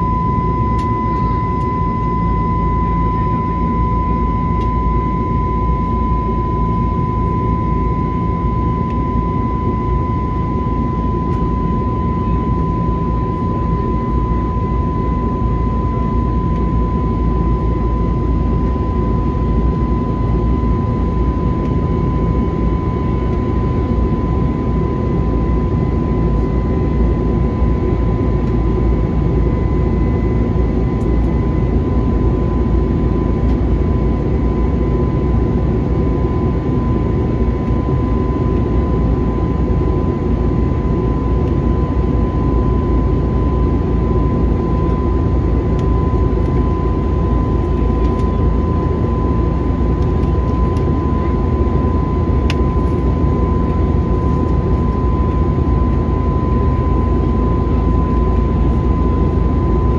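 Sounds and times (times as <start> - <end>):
high-pitched whine: 0.0 - 59.9
jet engines and airflow rushing: 0.0 - 59.9.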